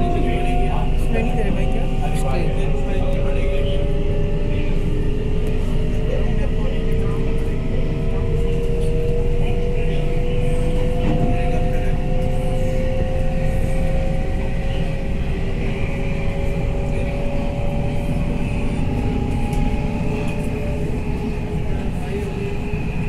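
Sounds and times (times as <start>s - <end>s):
wheels rumbling on track: 0.0s - 23.0s.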